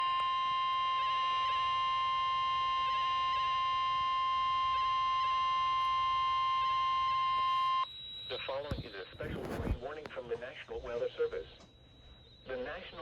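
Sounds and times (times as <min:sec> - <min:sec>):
steady high alarm tone: 0:00.0 - 0:13.0.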